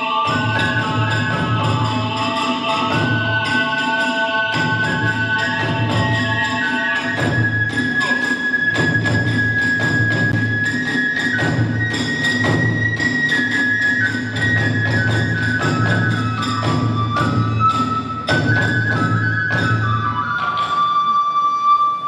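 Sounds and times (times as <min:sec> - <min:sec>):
taiko drums: 0:00.0 - 0:21.8
bamboo flute melody: 0:00.0 - 0:22.0
hand cymbals: 0:00.0 - 0:22.0.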